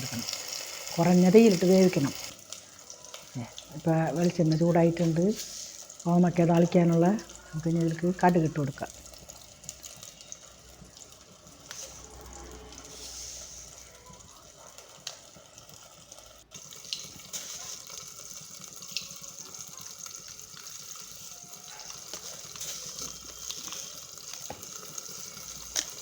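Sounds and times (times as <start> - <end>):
oil sizzling in a pan: 0.0 - 26.0.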